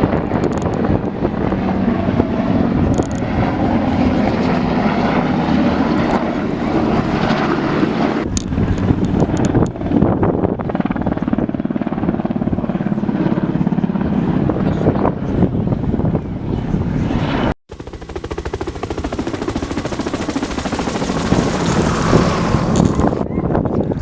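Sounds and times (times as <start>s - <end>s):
low-flying propeller aircraft: 0.0s - 24.0s.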